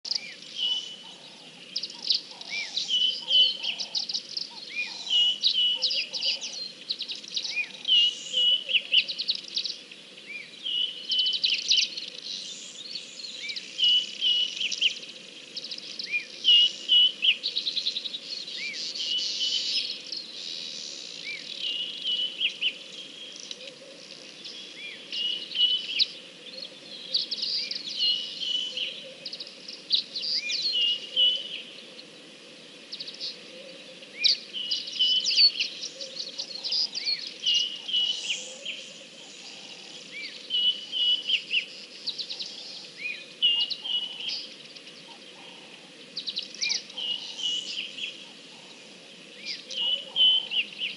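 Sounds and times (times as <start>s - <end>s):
birds chirping and trilling: 0.0s - 50.9s.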